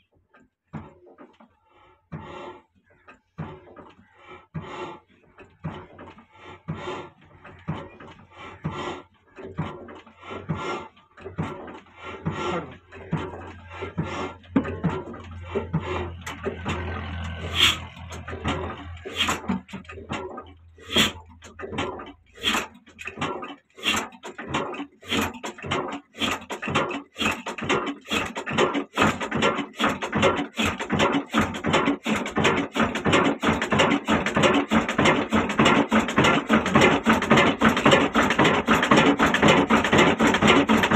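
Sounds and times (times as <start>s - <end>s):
diesel engine exhaust beats: 1.8s - 40.9s.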